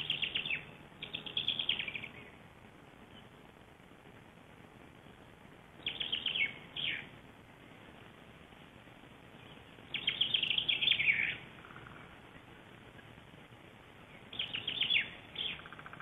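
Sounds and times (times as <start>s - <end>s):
songbird singing: 0.0s - 3.6s, 4.9s - 16.0s.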